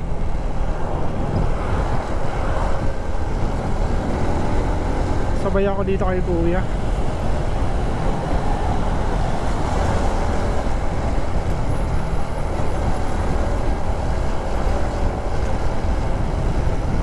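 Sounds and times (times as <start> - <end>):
road rumble: 0.0 - 17.0
wind rush on microphone: 0.0 - 17.0.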